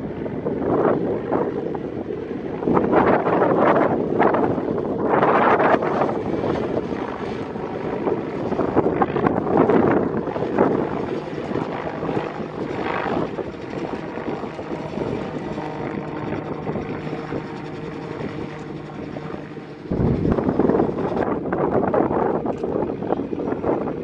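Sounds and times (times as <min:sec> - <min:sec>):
helicopter rotor and engine hum: 0:00.0 - 0:24.0.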